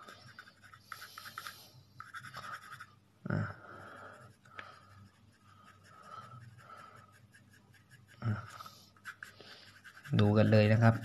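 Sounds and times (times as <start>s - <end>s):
pencil shading on paper: 0.0s - 2.9s, 3.8s - 11.0s.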